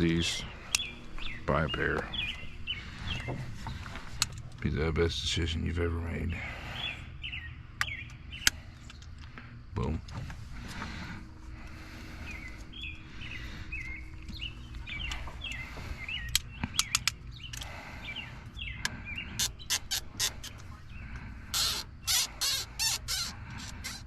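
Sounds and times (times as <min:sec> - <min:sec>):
bird chirping: 0:00.0 - 0:10.0, 0:10.7 - 0:24.0.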